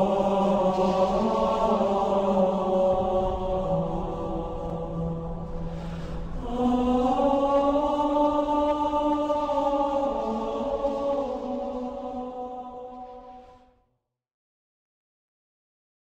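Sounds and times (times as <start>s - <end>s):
slow choral music: 0.0s - 13.8s.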